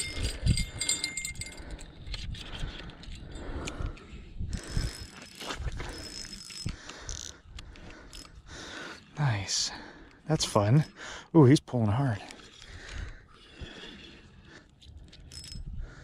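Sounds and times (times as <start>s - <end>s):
fishing reel rattling: 0.0s - 9.2s, 12.3s - 16.0s.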